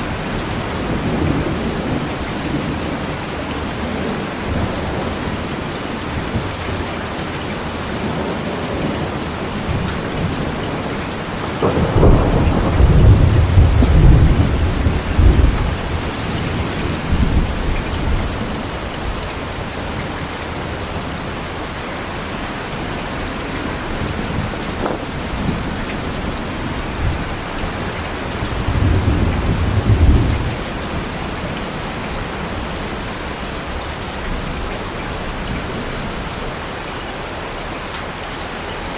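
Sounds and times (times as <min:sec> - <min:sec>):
thunder rumbling: 0:00.0 - 0:21.5, 0:22.6 - 0:36.2
steady rain: 0:00.0 - 0:38.9.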